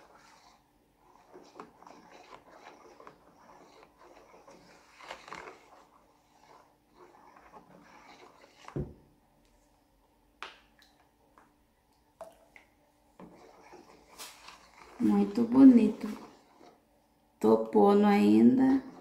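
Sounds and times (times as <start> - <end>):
liquid pouring and stirring: 0.0 - 17.0, 18.6 - 19.0.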